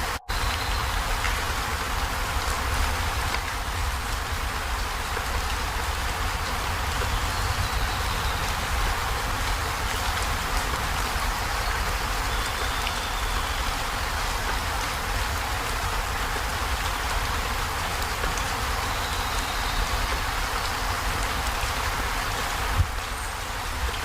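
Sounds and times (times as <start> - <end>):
rain on a metal roof: 0.0 - 24.0.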